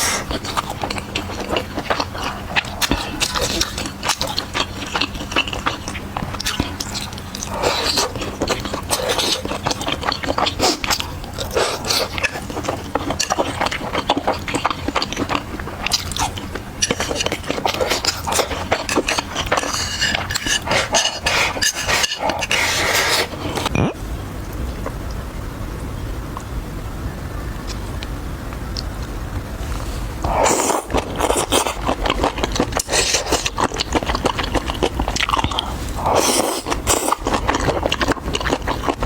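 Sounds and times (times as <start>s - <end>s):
close-miked chewing and crunching: 0.0s - 23.9s, 27.6s - 39.0s
steady low hum: 0.0s - 39.0s.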